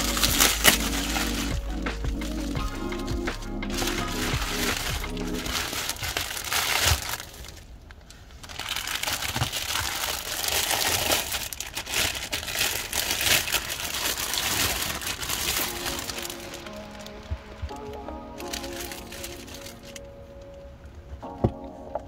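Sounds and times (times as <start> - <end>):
plastic packaging crinkling: 0.0 - 20.6.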